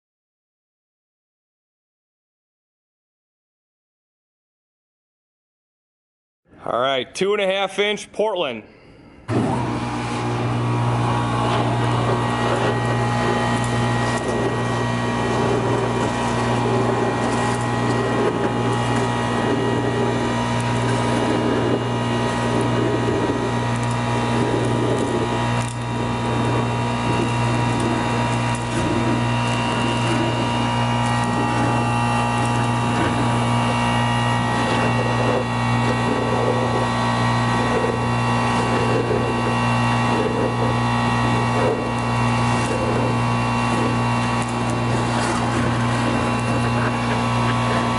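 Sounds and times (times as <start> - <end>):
industrial vacuum running: 8.2 - 47.9.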